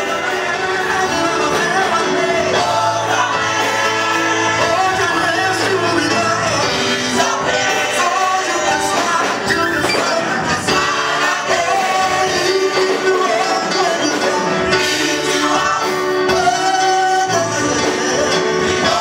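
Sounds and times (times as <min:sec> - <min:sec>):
choir singing gospel: 0:00.0 - 0:19.0
instrumental backing: 0:00.0 - 0:19.0
man singing lead: 0:00.0 - 0:19.0.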